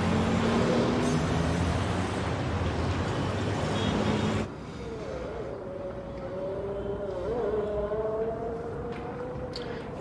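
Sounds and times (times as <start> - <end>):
car and truck traffic noise: 0.0 - 8.1.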